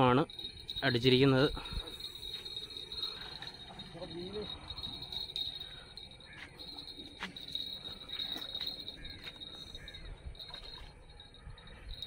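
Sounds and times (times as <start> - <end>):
insects chirring: 0.0 - 12.0
faint bird calls: 2.0 - 12.0.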